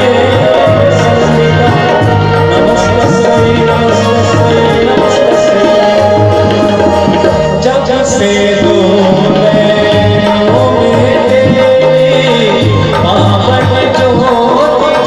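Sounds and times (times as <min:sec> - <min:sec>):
hand drums: 0:00.0 - 0:15.0
man singing into a microphone: 0:00.0 - 0:15.0.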